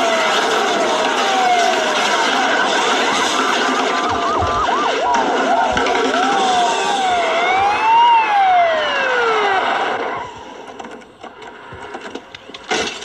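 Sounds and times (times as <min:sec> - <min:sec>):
police siren wailing: 0:00.0 - 0:10.6
vehicle noise: 0:00.0 - 0:13.0.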